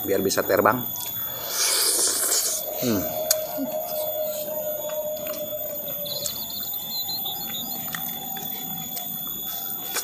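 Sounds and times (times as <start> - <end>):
steady mid-pitched tone: 0.3 - 10.0.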